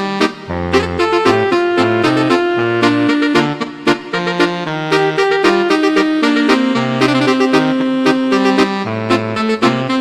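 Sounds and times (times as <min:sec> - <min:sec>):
reedy horn-like melody: 0:00.0 - 0:10.0
bass line: 0:00.2 - 0:10.0.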